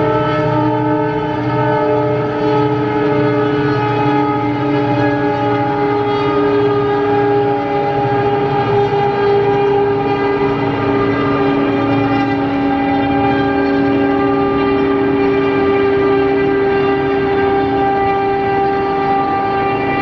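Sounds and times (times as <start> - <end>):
diesel locomotive engines droning: 0.0 - 20.0
sustained whine: 0.0 - 20.0.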